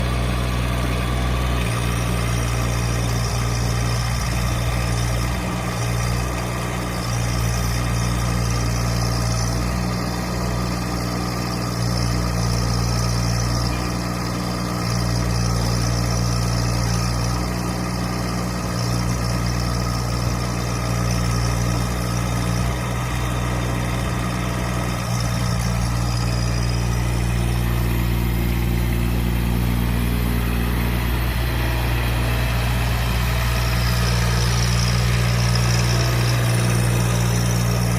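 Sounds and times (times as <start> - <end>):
excavator engine running: 0.0 - 37.9.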